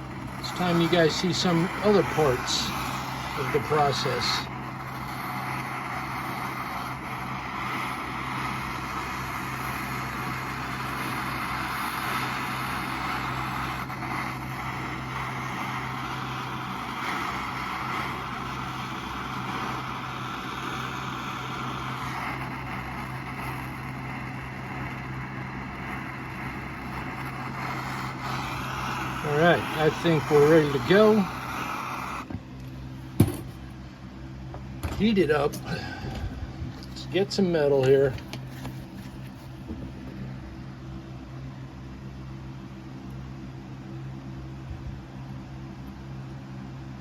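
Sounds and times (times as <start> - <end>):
gas burner flame hissing: 0.0 - 40.8
low hum: 0.0 - 41.7.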